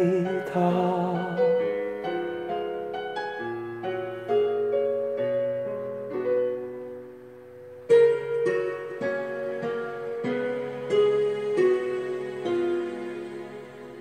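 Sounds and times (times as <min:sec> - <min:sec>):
slow piano notes and chords: 0:00.0 - 0:14.0.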